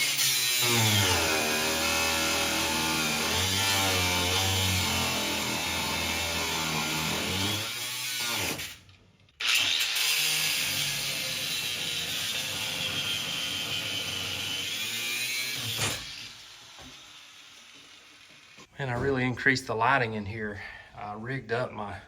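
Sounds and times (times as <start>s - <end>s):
power tool cutting metal: 0.0s - 18.7s.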